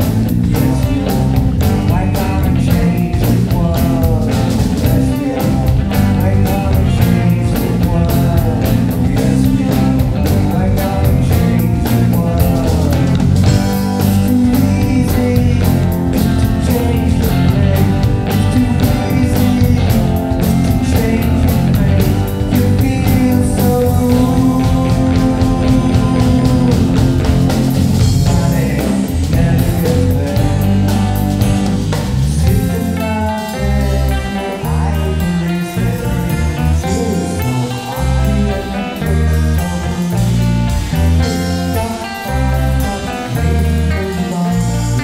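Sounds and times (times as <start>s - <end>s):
drum kit beat: 0.0s - 45.0s
electric bass: 0.0s - 45.0s
electric guitar: 0.0s - 45.0s.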